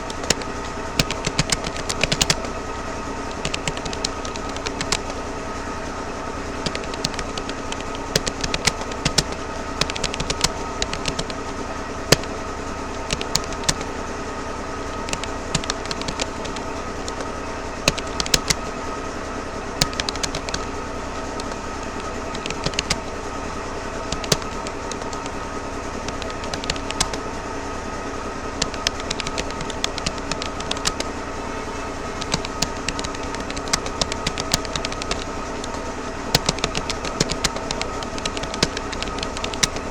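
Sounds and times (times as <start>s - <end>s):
keyboard typing clicks: 0.0s - 2.6s, 3.2s - 5.3s, 6.5s - 14.0s, 14.8s - 18.7s, 19.8s - 23.2s, 23.9s - 27.3s, 28.5s - 31.2s, 32.0s - 39.9s
steady hum: 0.0s - 39.9s.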